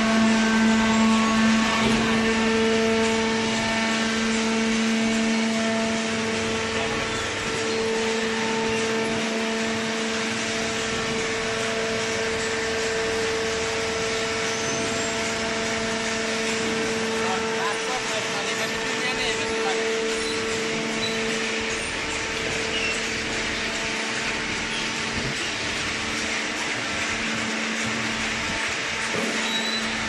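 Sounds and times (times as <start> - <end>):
hydraulic press humming and whining: 0.0 - 30.0.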